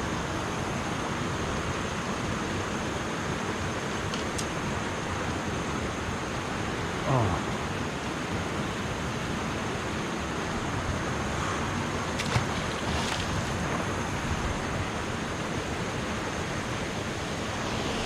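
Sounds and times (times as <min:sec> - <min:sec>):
river water pouring over dam: 0:00.0 - 0:18.0.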